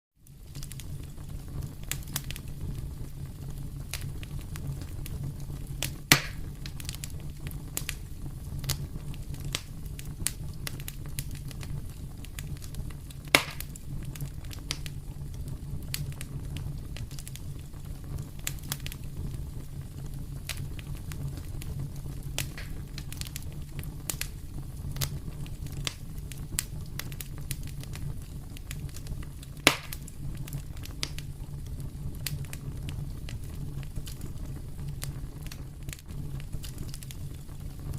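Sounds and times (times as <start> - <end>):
fire crackling: 0.2 - 37.9
fire popping: 0.2 - 37.9.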